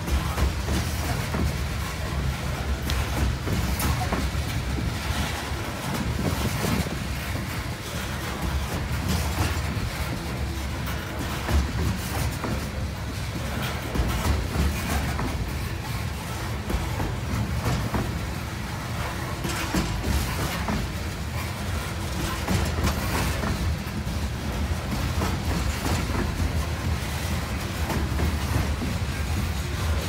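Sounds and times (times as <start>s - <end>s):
train wheels rumbling on rail: 0.0s - 30.0s
wheels and couplings clunking: 0.0s - 30.0s.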